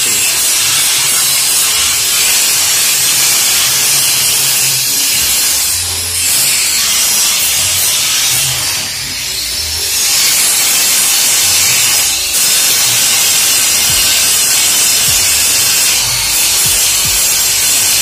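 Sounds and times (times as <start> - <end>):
angle grinder grinding metal: 0.0 - 18.0.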